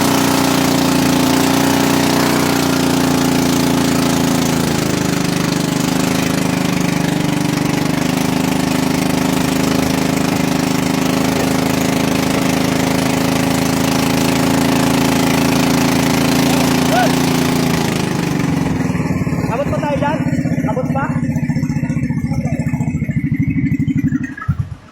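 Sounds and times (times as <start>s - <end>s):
boat engine pulsing: 0.0s - 24.9s.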